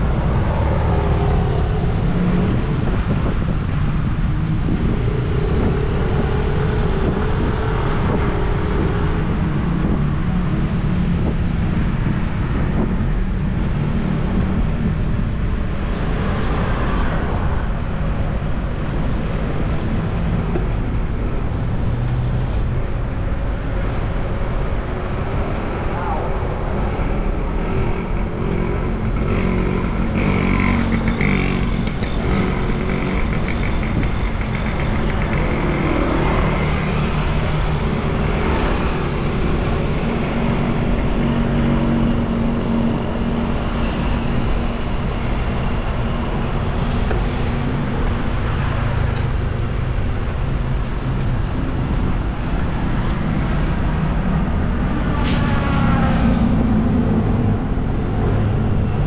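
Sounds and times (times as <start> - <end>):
car and motorcycle engines passing: 0.0 - 59.0.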